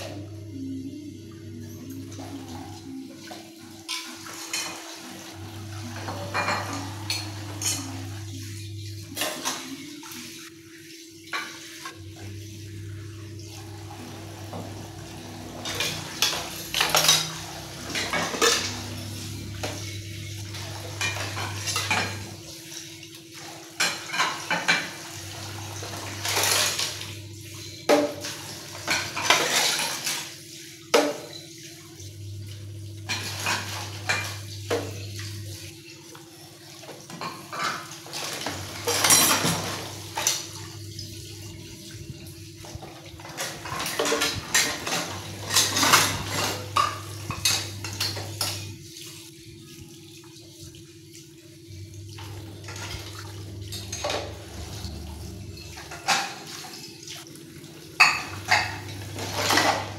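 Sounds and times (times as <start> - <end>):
dishes clinking in a sink: 0.0 - 59.9.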